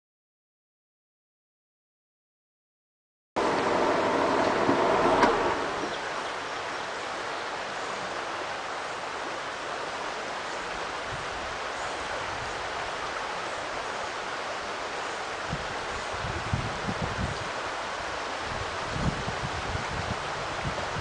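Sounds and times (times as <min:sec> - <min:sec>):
river water rushing: 0:03.4 - 0:21.0.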